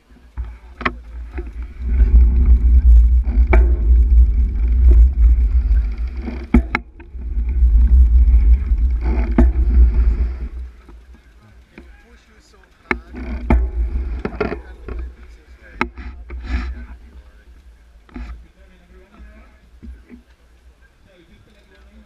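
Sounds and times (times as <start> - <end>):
heavy low rumble of rolling bike: 0.0 - 22.0.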